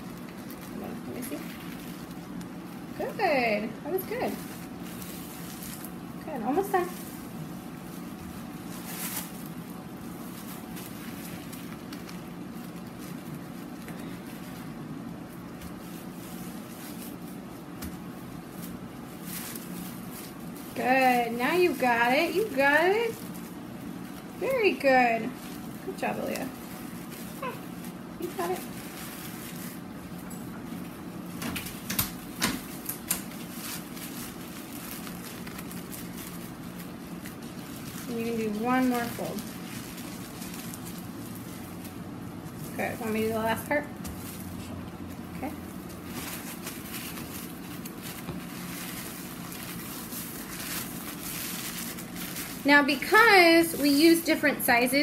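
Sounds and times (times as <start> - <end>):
steady low hum: 0.0 - 55.0
tissue paper rustling: 0.0 - 55.0.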